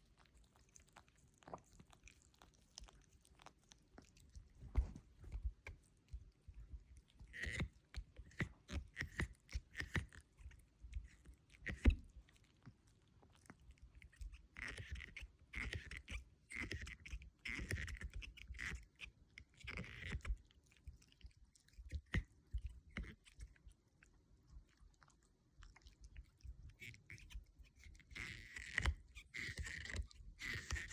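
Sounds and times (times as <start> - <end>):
puppy chewing a toy: 0.0 - 30.9.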